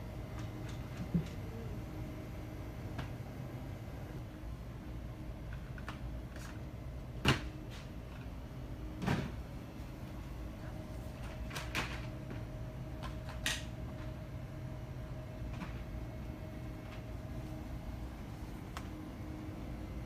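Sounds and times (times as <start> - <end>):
low shop floor hum: 0.0 - 20.0.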